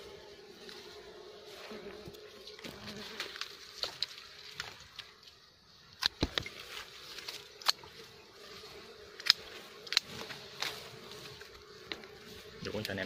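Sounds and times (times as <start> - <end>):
bees buzzing faintly: 0.0 - 13.0.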